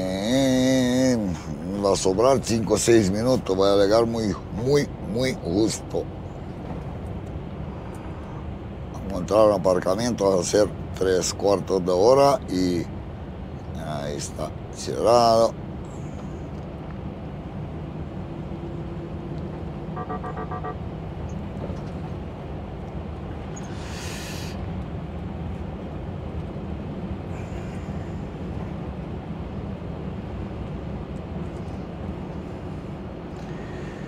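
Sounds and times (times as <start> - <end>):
lorry engine and road noise: 0.0 - 34.0.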